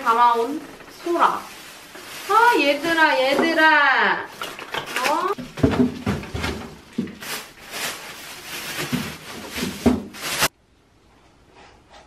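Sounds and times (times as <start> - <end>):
plastic bags rustling: 0.0 - 10.5.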